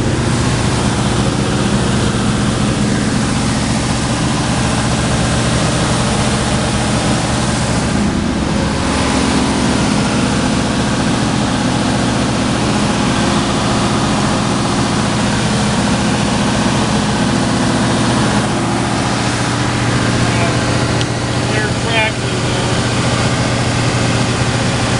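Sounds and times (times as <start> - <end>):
belt sander machine hum: 0.0 - 24.9.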